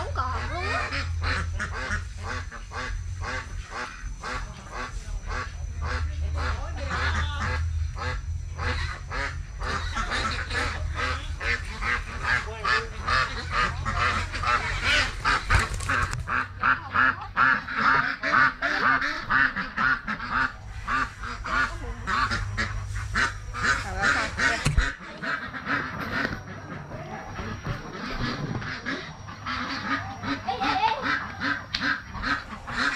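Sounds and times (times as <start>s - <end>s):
ducks quacking: 0.0s - 32.9s.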